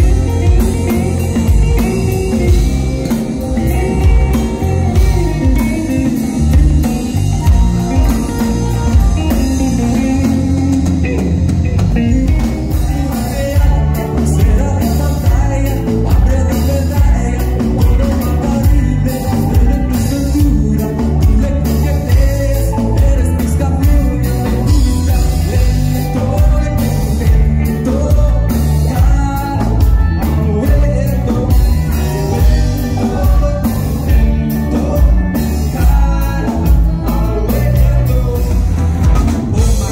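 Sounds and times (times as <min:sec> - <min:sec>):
lead vocal singing: 0:00.0 - 0:39.9
live pop-rock band playing: 0:00.0 - 0:39.9.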